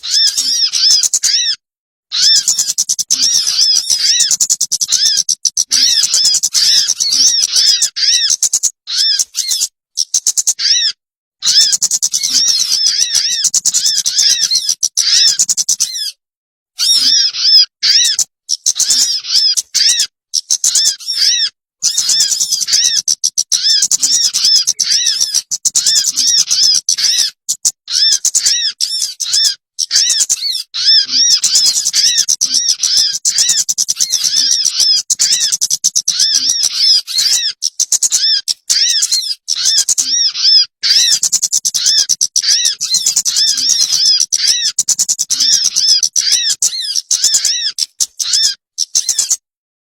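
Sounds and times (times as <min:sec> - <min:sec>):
small bird chirping: 0:00.0 - 0:16.2, 0:16.8 - 0:49.5.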